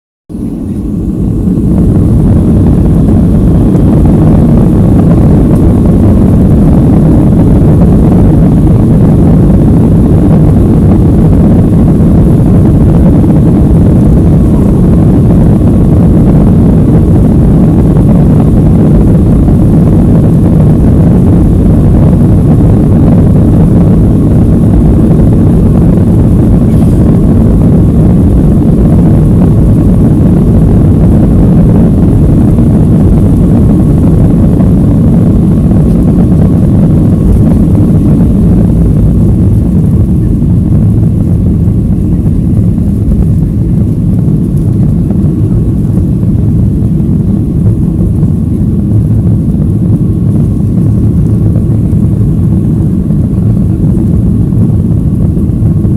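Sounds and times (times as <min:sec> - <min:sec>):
jet engines rumbling: 0:00.3 - 0:55.9.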